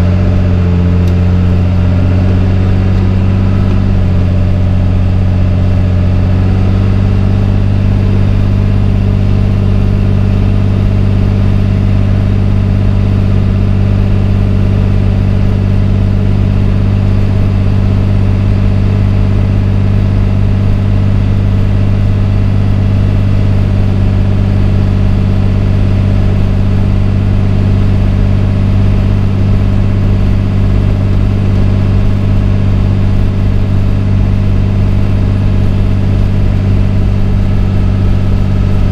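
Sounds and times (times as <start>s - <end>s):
diesel engine hum: 0.0s - 38.9s
road noise: 0.0s - 38.9s.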